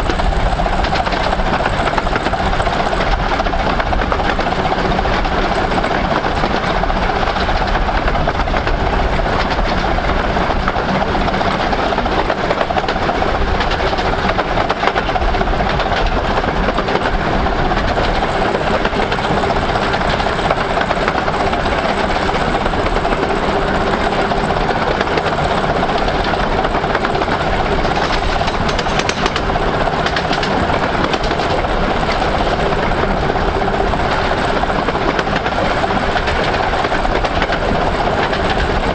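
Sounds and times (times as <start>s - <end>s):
steam train rumbling on rails: 0.0s - 38.9s.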